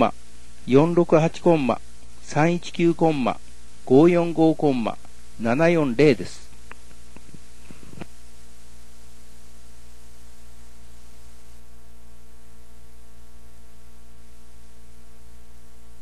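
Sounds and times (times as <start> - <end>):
electrical mains hum with hiss: 0.0 - 16.0.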